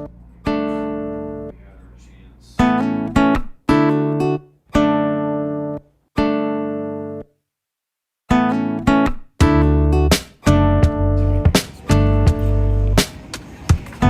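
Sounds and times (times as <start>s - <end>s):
acoustic guitar chords: 0.0s - 7.4s, 8.3s - 14.0s.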